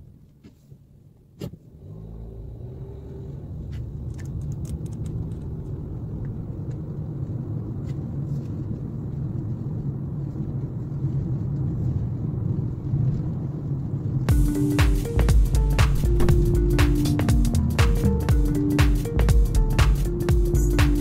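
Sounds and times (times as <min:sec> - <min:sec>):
car cabin road noise: 0:00.0 - 0:21.0
low engine rumble: 0:00.9 - 0:21.0.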